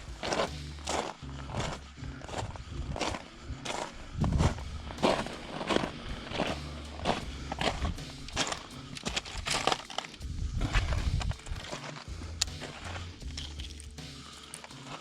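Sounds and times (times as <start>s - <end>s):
low rumble: 0.0s - 14.4s
footsteps crunching on rough ground: 0.0s - 15.0s.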